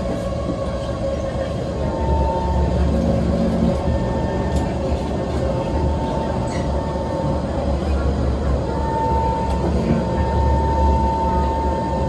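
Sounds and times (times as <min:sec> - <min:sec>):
continuous whine: 0:00.0 - 0:12.0
train rumbling: 0:00.0 - 0:12.0.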